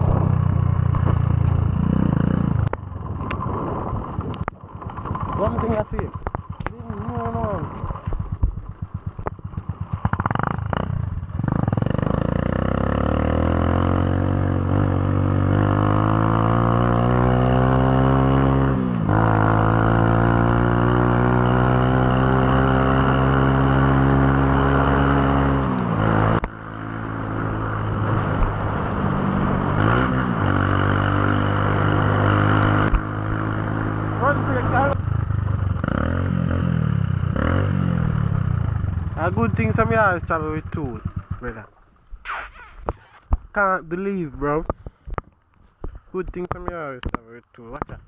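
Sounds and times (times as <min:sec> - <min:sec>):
motorcycle engine: 0:00.0 - 0:47.1.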